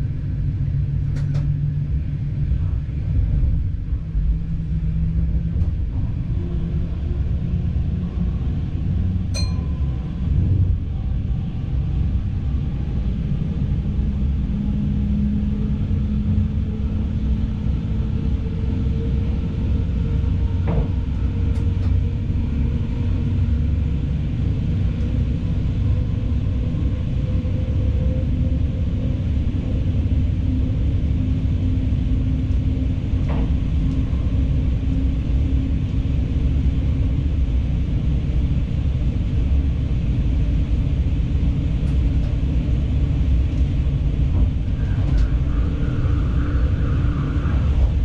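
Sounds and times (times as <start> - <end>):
train engine and wheels rumbling: 0.0 - 48.0.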